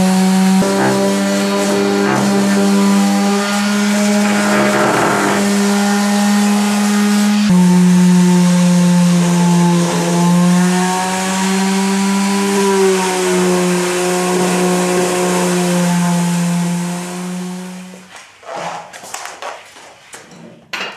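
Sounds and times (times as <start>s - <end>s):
orbital sander on wood: 0.0s - 17.8s.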